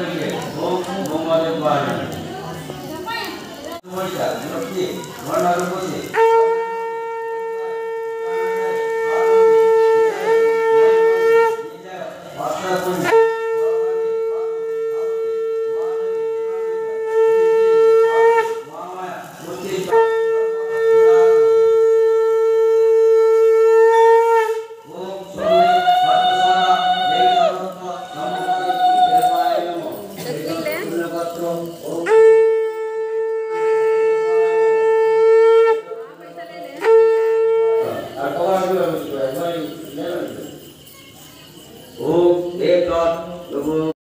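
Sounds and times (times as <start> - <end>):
conch shell blasts: 4.0 - 40.9.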